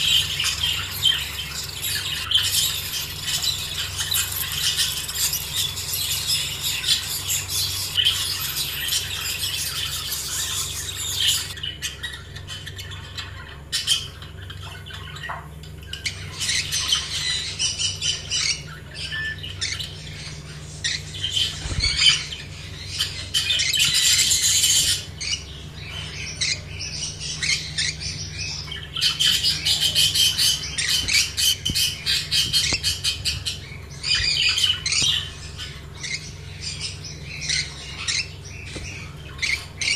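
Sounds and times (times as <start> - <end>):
caged birds chattering and squawking: 0.0 - 39.9
steady low hum: 0.0 - 39.9.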